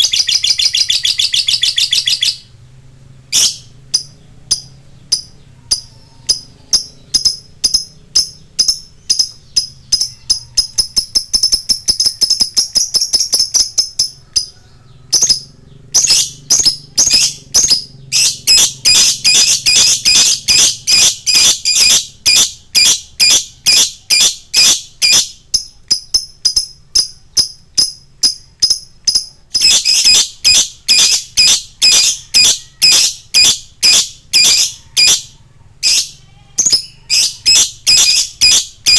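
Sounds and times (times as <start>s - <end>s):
lovebird chattering: 0.0s - 2.5s, 3.3s - 38.9s.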